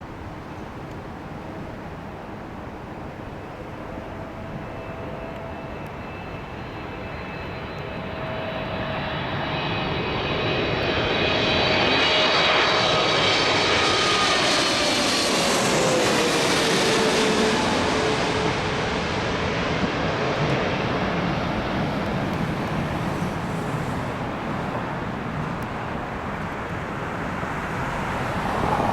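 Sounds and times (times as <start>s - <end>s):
jet airliner engines whining: 0.2s - 28.9s.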